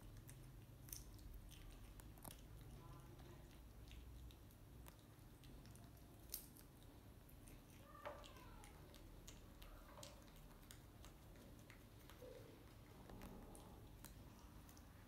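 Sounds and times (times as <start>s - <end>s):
monkey chewing fruit: 0.0s - 15.0s.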